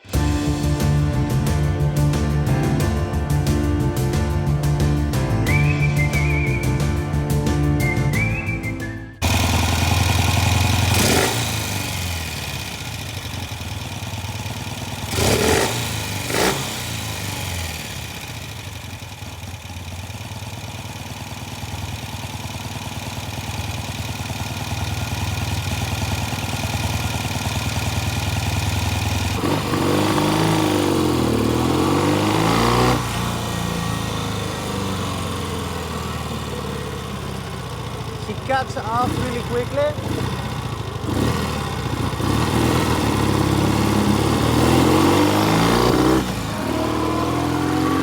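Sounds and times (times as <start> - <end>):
motorcycle engine idling and revving: 0.0 - 48.0.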